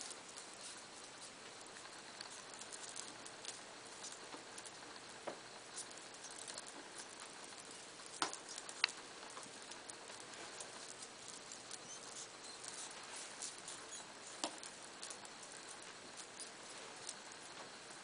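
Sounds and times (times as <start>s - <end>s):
hedgehogs rustling on bedding: 0.0s - 18.0s
steady hiss: 0.0s - 18.0s.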